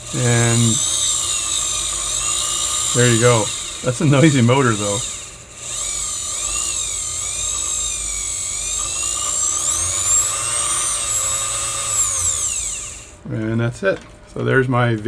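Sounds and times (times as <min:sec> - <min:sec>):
sewing machine motor whining: 0:00.0 - 0:13.2.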